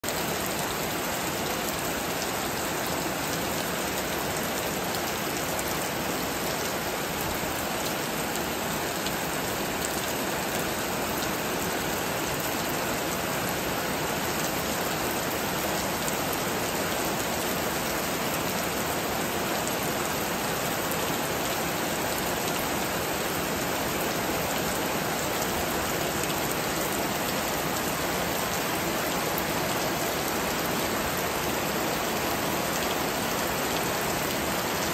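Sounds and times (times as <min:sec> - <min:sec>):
heavy rain on leaves and grass: 0:00.0 - 0:34.9.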